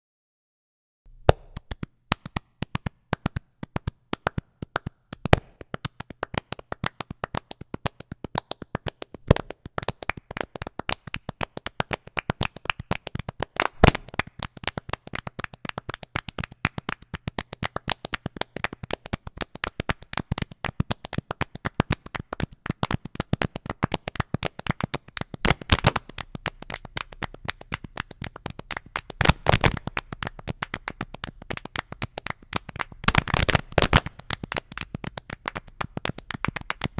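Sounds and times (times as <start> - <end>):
hand claps: 1.2 - 36.9.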